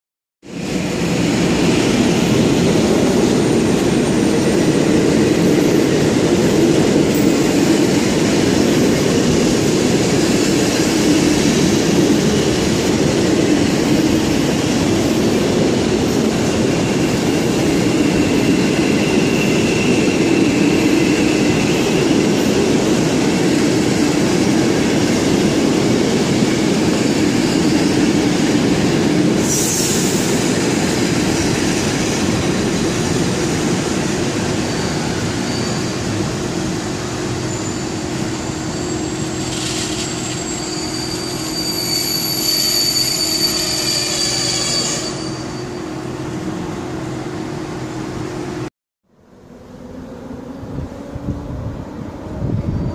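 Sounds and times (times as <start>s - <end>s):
train wheels rumbling on rails: 0.4s - 48.7s.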